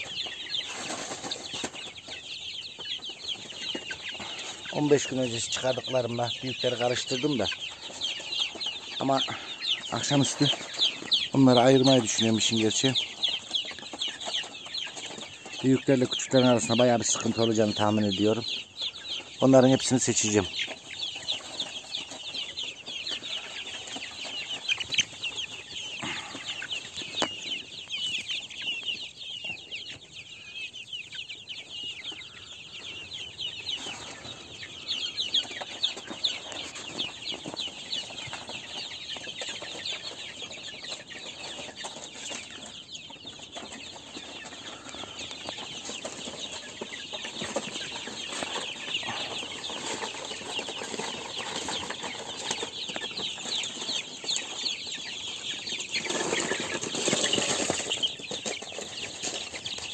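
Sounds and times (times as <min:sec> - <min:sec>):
young chickens peeping: 0:00.0 - 0:59.9.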